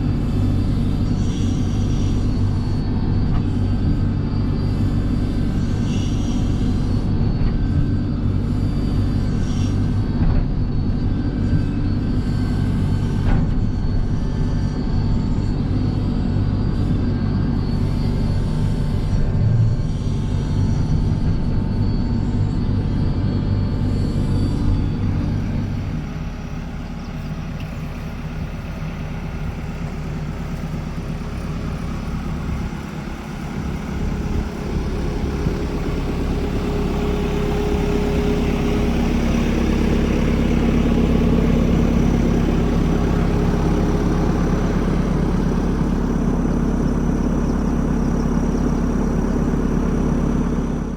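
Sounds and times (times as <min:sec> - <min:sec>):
diesel engine running and revving: 0:00.0 - 0:50.9.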